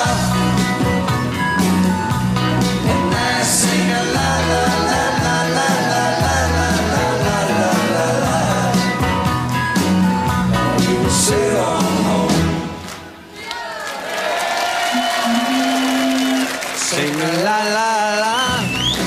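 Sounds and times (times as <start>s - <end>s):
pop-rock band with singing: 0.0s - 12.9s, 15.0s - 19.0s.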